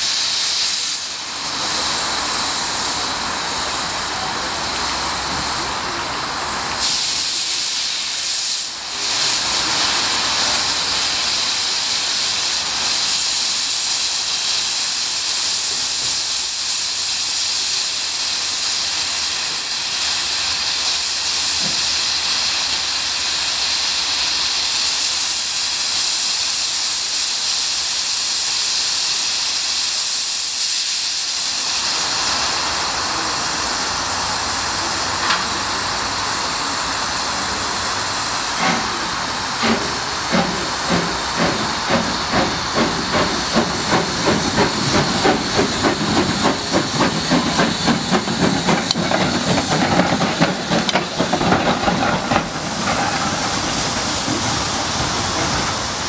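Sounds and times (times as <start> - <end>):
rhythmic steam beats: 0.0 - 56.0
steam locomotive hissing: 0.0 - 56.0.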